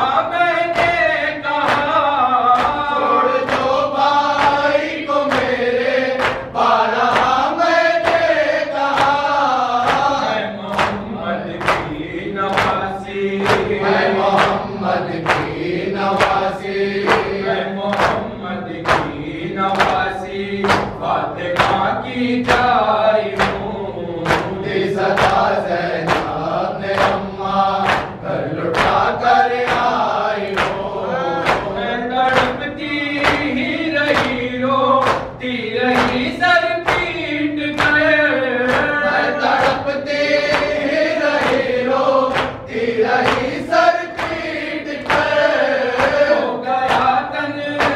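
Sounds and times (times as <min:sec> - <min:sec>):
men chanting in unison: 0:00.0 - 0:47.9
palms slapping chests: 0:00.6 - 0:47.9.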